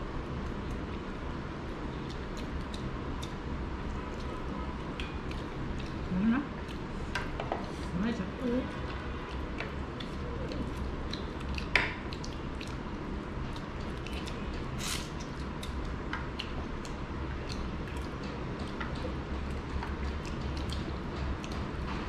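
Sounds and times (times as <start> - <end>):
wet squishy chewing: 1.8 - 7.0, 8.7 - 22.0.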